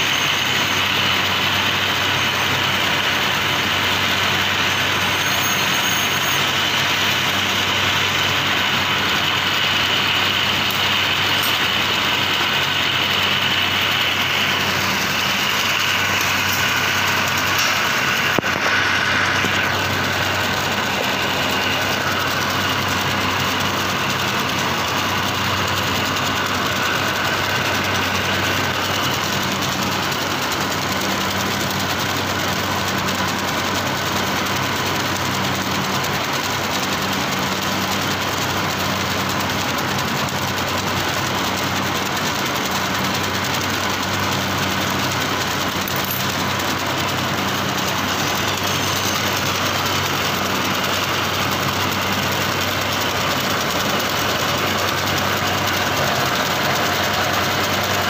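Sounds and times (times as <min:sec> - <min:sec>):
high machine whine: 0:00.0 - 0:58.0
machinery humming: 0:00.0 - 0:58.0.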